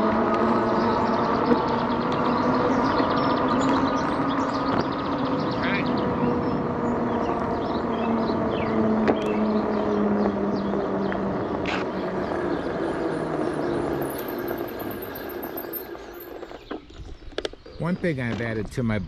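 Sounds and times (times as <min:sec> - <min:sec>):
electric motor hum: 0:00.0 - 0:16.8
bike tyres rolling: 0:00.0 - 0:19.0
small birds chirping: 0:00.1 - 0:19.0.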